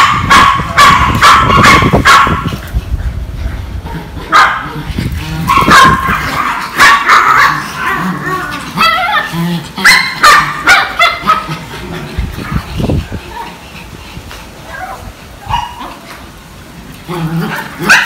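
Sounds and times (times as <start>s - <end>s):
small dogs yapping: 0.0s - 2.7s, 4.0s - 14.0s, 14.6s - 16.2s, 17.0s - 18.0s.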